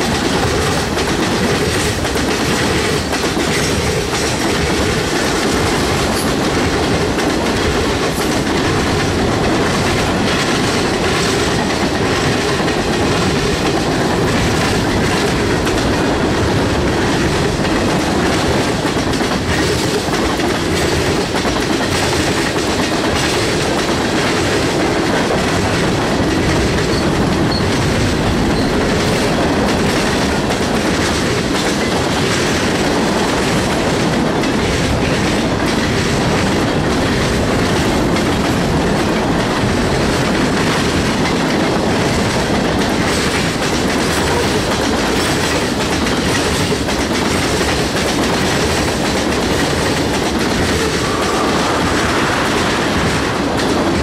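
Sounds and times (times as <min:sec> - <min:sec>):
clickety-clack over rail joints: 0:00.0 - 0:54.0
freight train wheels rumbling on rail: 0:00.0 - 0:54.0.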